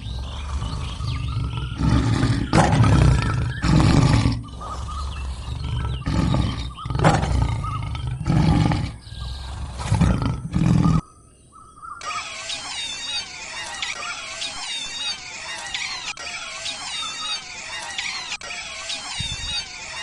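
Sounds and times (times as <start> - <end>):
big cat roaring: 0.0 - 11.0, 13.5 - 20.0.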